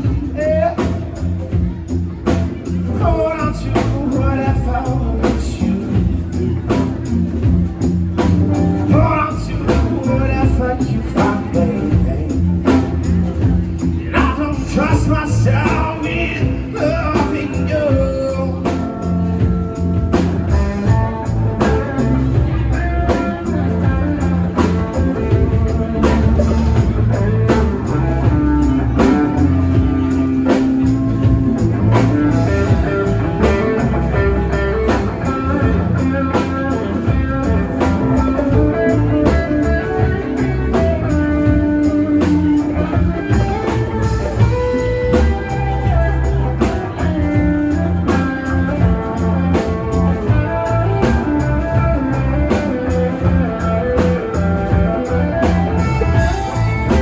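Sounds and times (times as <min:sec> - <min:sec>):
bass guitar: 0:00.0 - 0:57.0
drum kit beat: 0:00.0 - 0:57.0
electric guitar lead: 0:00.0 - 0:57.0.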